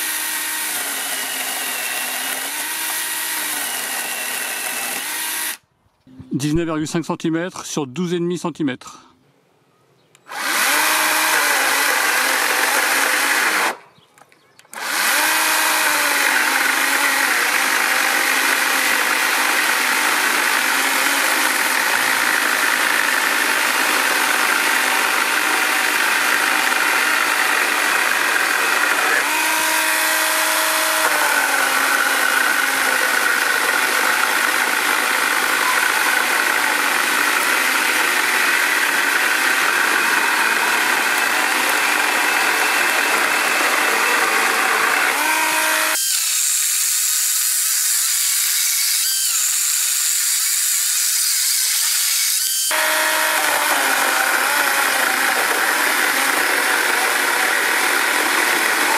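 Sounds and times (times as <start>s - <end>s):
cordless chainsaw cutting timber: 0.0s - 5.6s, 10.3s - 13.8s, 14.7s - 58.9s.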